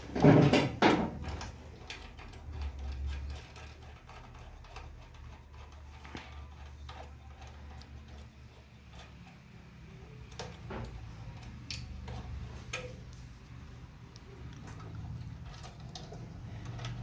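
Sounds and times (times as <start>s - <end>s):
light clicks and taps: 1.2s - 17.0s.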